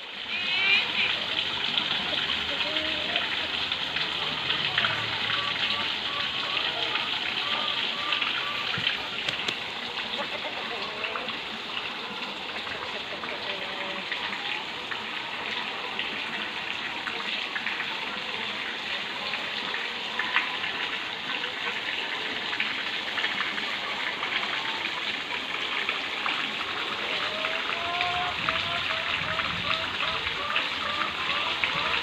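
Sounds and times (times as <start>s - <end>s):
water gushing into pond: 0.0s - 32.0s.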